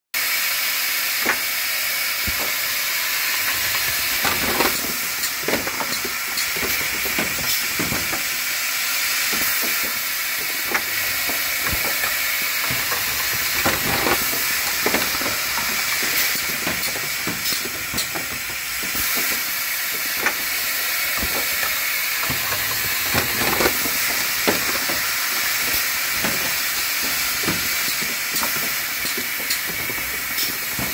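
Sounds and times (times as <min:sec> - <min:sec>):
pneumatic hiss: 0:00.2 - 0:30.9.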